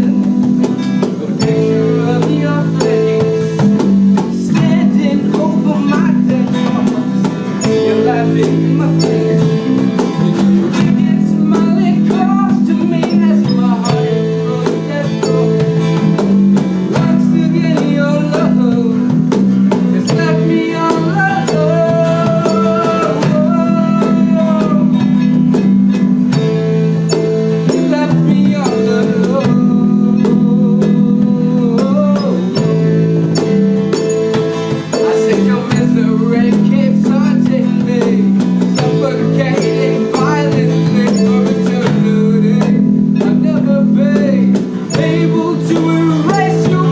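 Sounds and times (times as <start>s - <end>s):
drum kit beat: 0.0s - 46.9s
person singing: 0.0s - 46.9s
strummed guitar chords: 0.0s - 46.9s.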